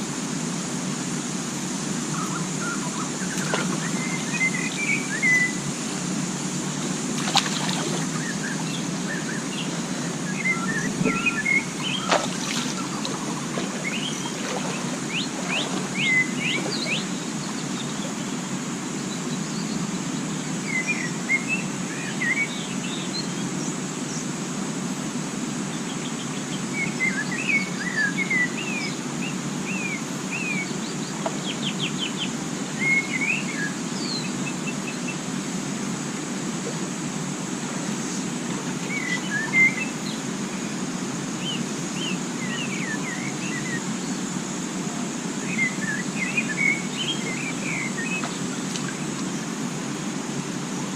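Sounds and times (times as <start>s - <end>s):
birds chirping: 0.0s - 24.3s, 25.7s - 50.9s.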